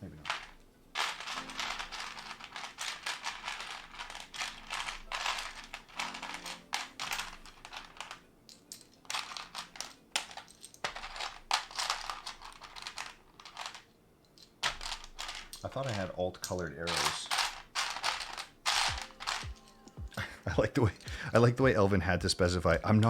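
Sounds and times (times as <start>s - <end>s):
plastic keycaps clattering: 0.0s - 20.2s.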